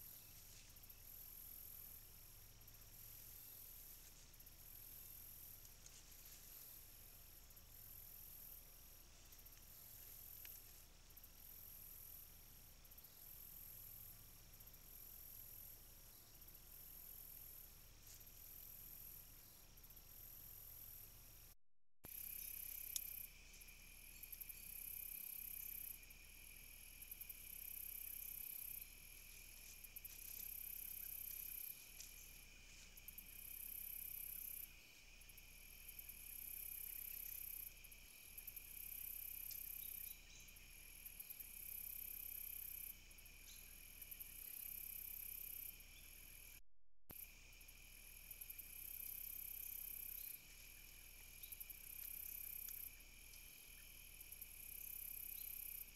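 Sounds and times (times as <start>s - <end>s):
crickets trilling: 0.0s - 21.5s, 22.1s - 55.9s
buzzy insect call: 0.0s - 55.9s.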